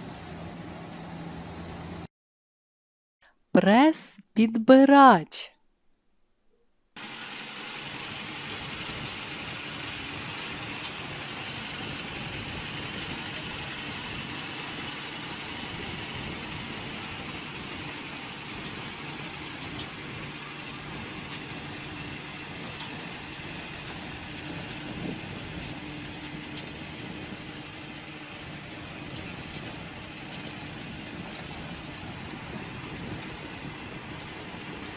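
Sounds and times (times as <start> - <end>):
baler machinery drone: 0.0 - 2.1, 7.0 - 34.9.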